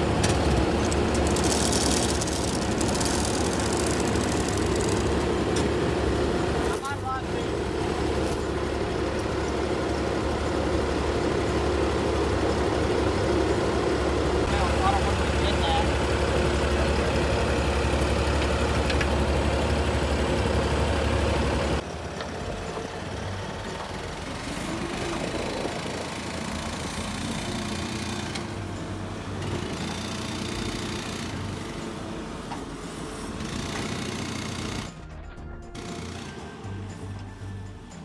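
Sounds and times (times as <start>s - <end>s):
engine humming deeply: 0.0s - 33.2s
quieter rough engine: 0.0s - 38.0s.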